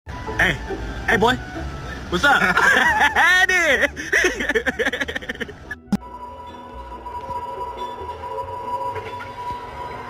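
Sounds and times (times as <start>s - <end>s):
steady held music tone: 0.1s - 10.0s.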